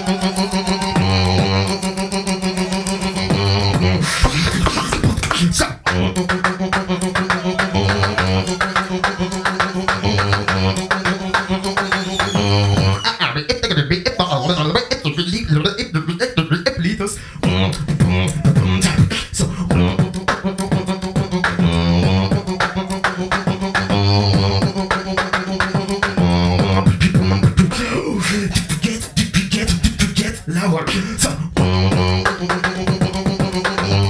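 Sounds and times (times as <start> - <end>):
beatboxing into microphone: 0.0 - 34.0
warbling vocal slides: 0.0 - 34.0.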